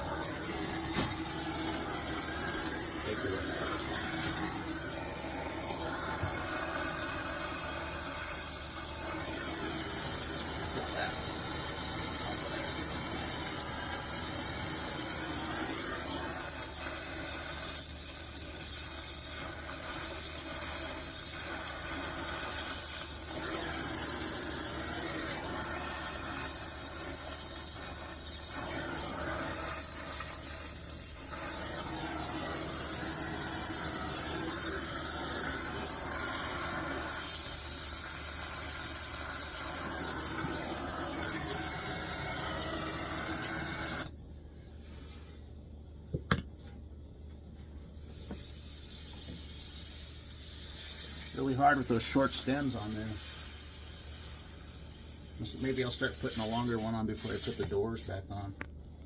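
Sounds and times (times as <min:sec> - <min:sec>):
torch flame hissing: 0:00.0 - 0:44.1, 0:47.9 - 0:58.2.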